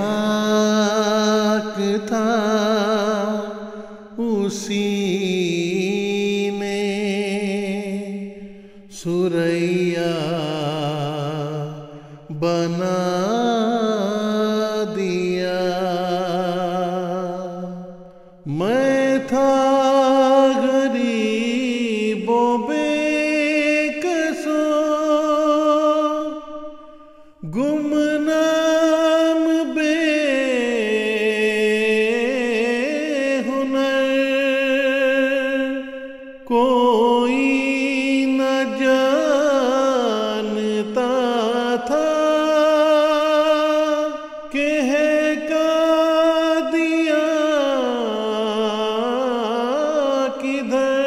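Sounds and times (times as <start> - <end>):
person chanting a poem unaccompanied: 0.0 - 51.0.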